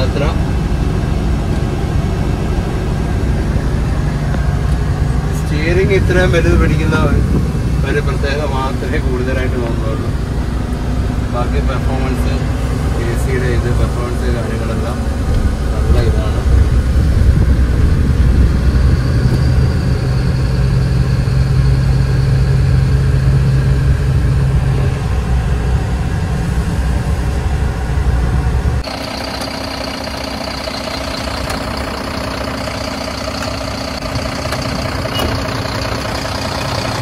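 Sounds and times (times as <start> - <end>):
truck diesel engine drone: 0.0 - 37.0
truck idling: 0.0 - 37.0.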